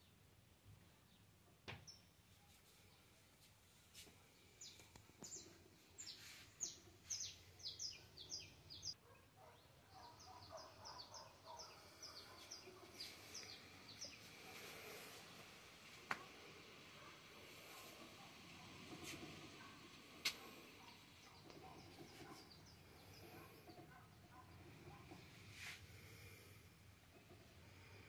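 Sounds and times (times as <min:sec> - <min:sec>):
faint bird chirping: 0:00.0 - 0:28.0.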